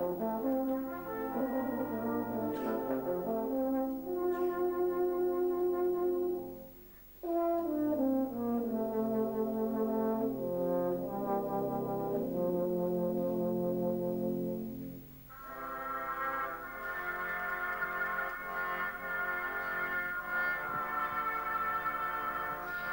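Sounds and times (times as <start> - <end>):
euphonium solo: 0.0 - 6.7, 7.6 - 22.9
brass band accompaniment: 0.0 - 22.9.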